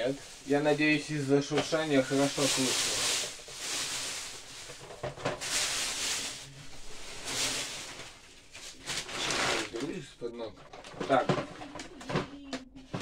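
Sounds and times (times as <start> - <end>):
plastic bag rustling and crinkling: 0.0 - 13.0.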